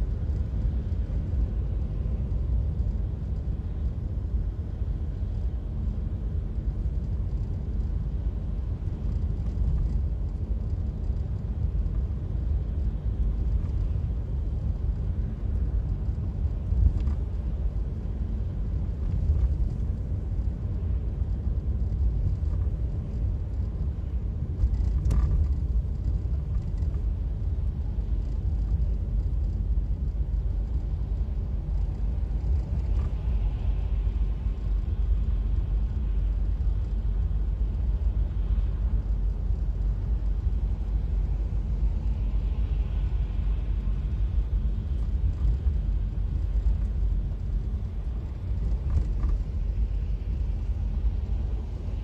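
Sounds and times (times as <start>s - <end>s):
car engine and tyres on wet road: 0.0s - 52.0s.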